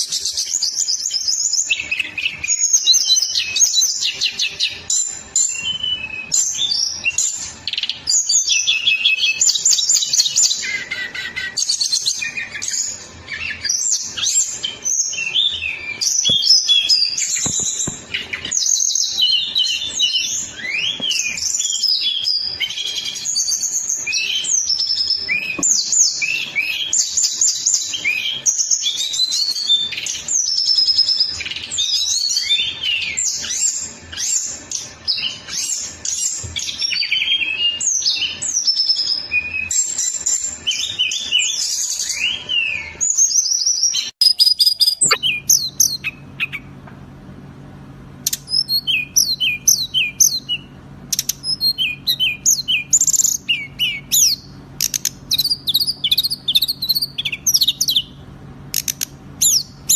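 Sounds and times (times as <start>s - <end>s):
steady low hum: 0.0s - 43.2s, 44.2s - 59.9s
repeated bird chirps: 0.0s - 46.8s, 48.3s - 59.9s
songbird singing: 0.0s - 46.8s, 48.2s - 59.9s.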